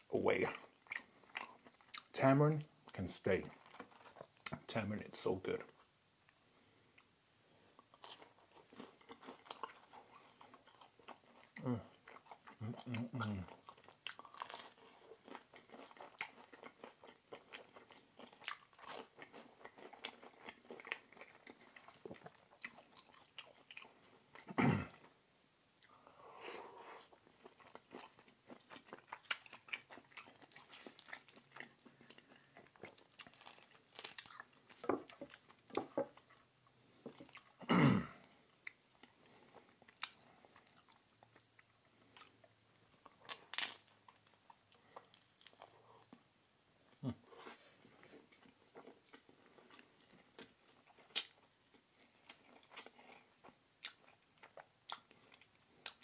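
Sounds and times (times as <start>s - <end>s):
person chewing with crunches: 0.0s - 2.2s, 2.8s - 4.7s, 6.8s - 25.2s, 25.8s - 37.7s, 38.3s - 46.3s, 46.9s - 56.0s.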